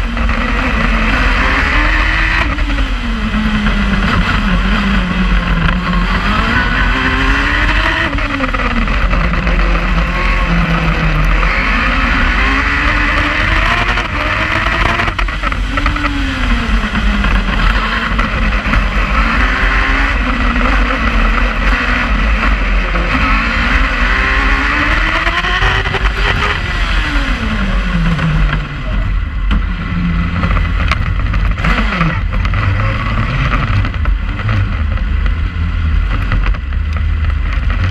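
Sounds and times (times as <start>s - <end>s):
racing car engine revving: 0.0s - 37.9s.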